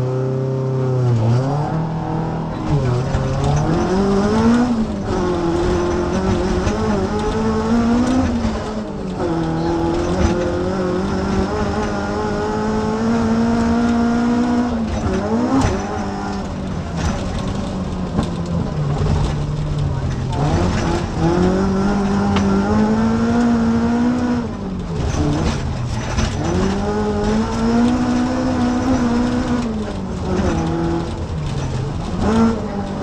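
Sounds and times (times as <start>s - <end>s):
car engine accelerating hard: 0.0s - 33.0s.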